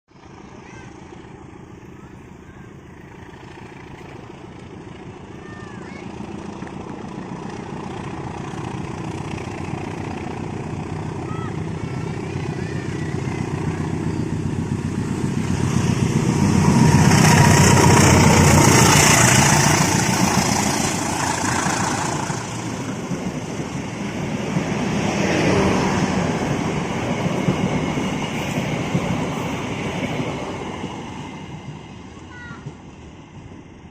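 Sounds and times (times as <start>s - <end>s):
passenger train rumbling past: 0.1s - 33.9s.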